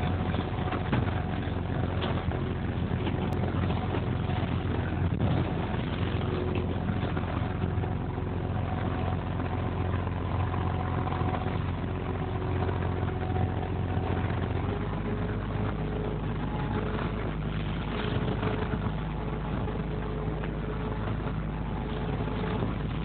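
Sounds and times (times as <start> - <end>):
boat engine running: 0.0 - 23.0
water washing against hull: 0.0 - 23.0.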